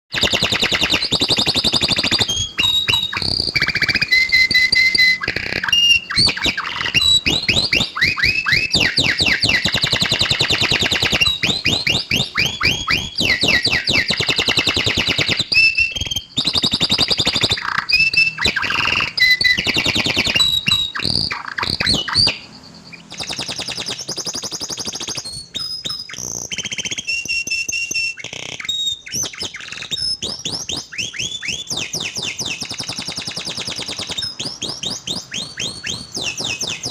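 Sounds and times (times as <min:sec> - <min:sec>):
canary song trills and whistles: 0:00.1 - 0:36.9.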